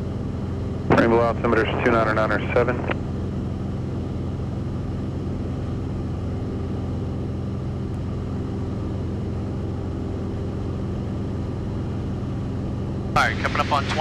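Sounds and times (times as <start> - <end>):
airplane engine and propeller droning: 0.0 - 14.0.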